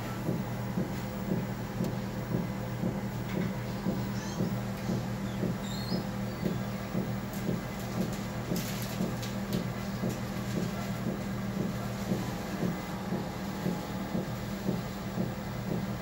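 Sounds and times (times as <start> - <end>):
running footfalls on treadmill: 0.0 - 16.0
treadmill motor and belt hum: 0.0 - 16.0.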